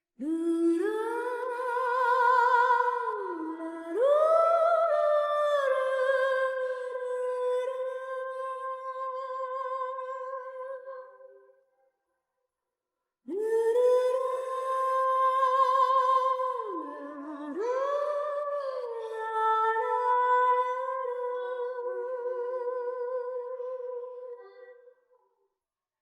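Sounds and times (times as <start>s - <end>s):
woman singing a cappella: 0.2s - 11.5s, 13.3s - 24.8s.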